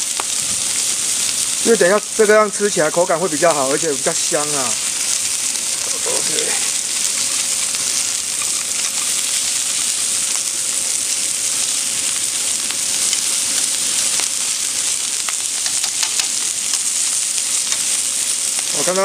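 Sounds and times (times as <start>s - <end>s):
fat crackling and popping: 0.0s - 19.0s
meat sizzling on hotplate: 0.0s - 19.0s.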